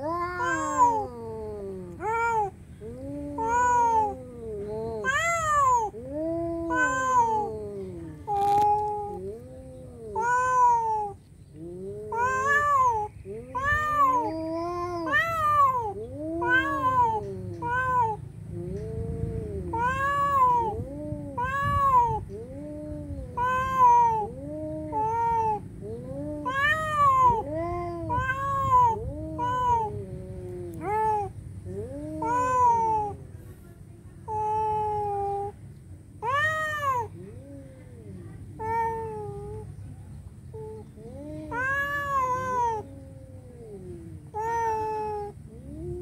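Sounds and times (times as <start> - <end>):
cats yowling: 0.0 - 33.3, 34.3 - 35.6, 36.2 - 39.7, 40.5 - 46.0.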